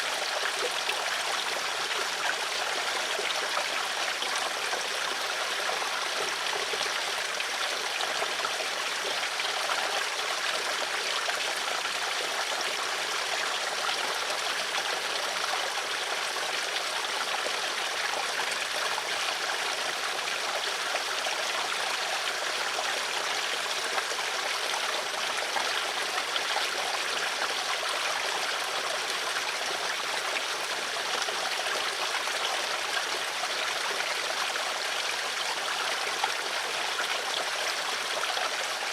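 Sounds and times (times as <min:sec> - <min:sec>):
stream flowing water: 0:00.0 - 0:38.9.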